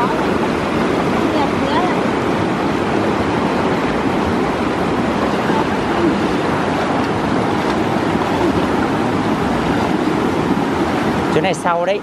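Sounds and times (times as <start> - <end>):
stream rushing water: 0.0 - 12.0.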